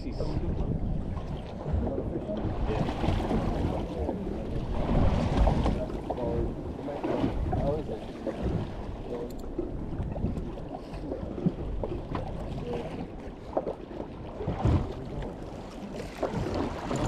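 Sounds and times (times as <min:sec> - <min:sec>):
boat engine low noise: 0:00.0 - 0:17.0
water against hull: 0:00.0 - 0:17.0
wind: 0:00.0 - 0:17.0.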